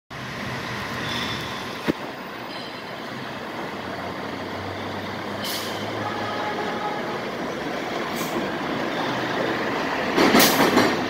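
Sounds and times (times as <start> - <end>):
train on elevated bridge overhead: 0.1 - 11.0.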